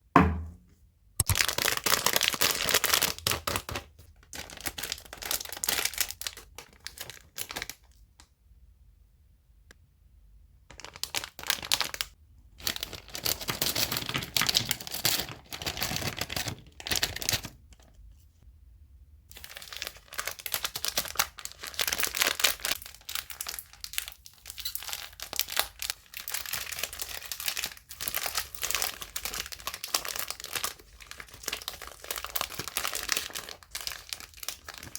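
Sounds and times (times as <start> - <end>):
plastic wrappers crinkling and tearing: 1.2 - 8.2, 10.7 - 18.0, 19.3 - 34.9.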